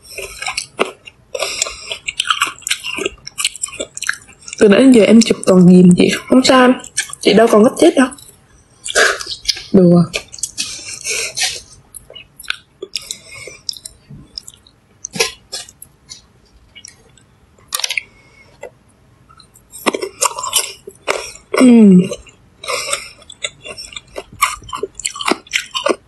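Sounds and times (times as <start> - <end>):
person chewing food: 0.0 - 5.4, 6.8 - 7.4, 8.2 - 26.0.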